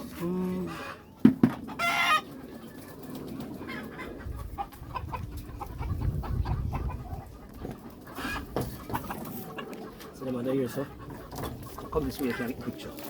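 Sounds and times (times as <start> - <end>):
chickens clucking: 0.0 - 13.0
chicken squawk: 0.6 - 13.0.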